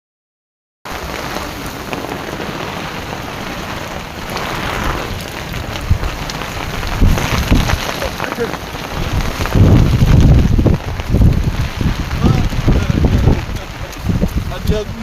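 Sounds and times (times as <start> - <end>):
heavy rain falling: 0.9 - 15.0.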